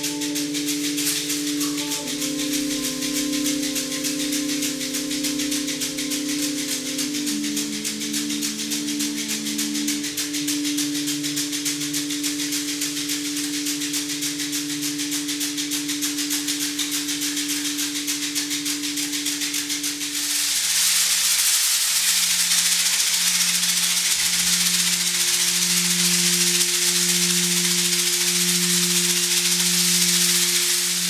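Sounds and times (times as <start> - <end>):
low held tones: 0.0 - 20.7, 23.0 - 31.0
hand rattle shaken: 0.0 - 31.0.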